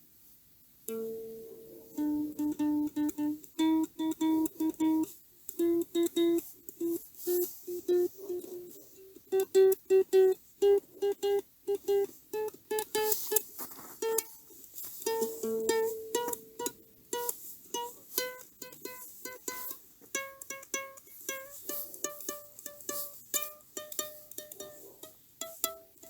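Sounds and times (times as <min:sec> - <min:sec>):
plucked string instrument melody: 0:00.9 - 0:26.0.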